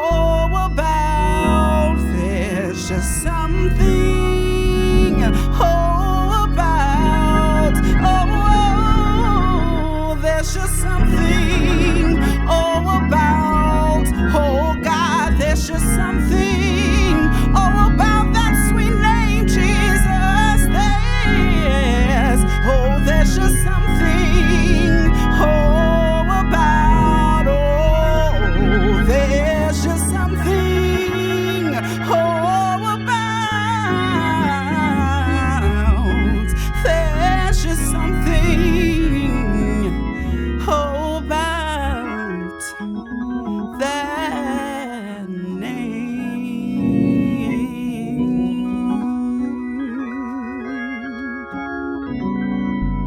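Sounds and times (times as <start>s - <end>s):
steady bass: 0.0s - 42.2s, 52.3s - 53.0s
organ holding chords: 0.0s - 53.0s.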